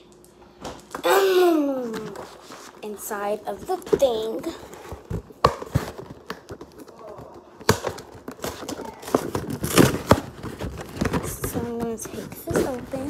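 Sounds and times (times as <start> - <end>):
plastic package crinkling: 1.9 - 13.0.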